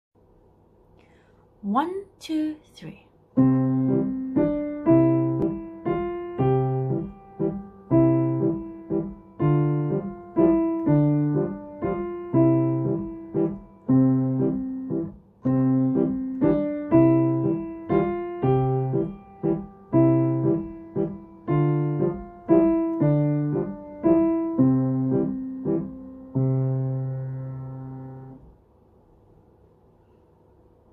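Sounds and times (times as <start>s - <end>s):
piano playing a waltz: 3.4s - 28.4s.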